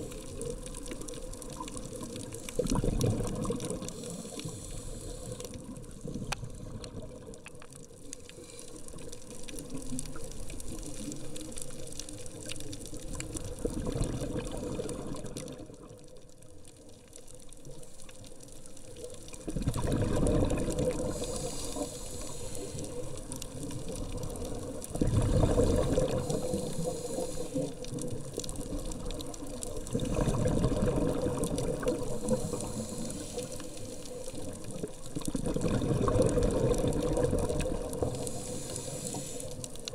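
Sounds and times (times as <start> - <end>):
exhaled bubbles underwater: 0.0 - 17.0, 18.8 - 39.9
steady watery hiss: 0.0 - 39.9.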